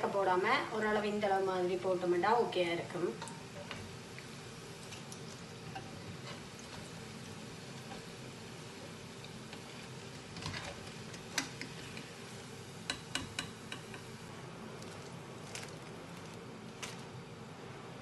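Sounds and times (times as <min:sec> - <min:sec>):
frying oil hissing: 0:00.0 - 0:18.0.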